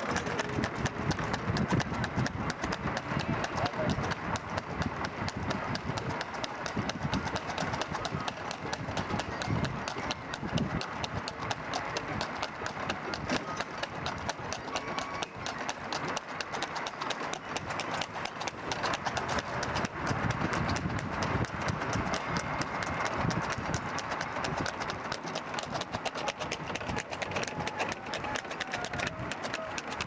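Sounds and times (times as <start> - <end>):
horse hooves clip-clopping on pavement: 0.0 - 30.0.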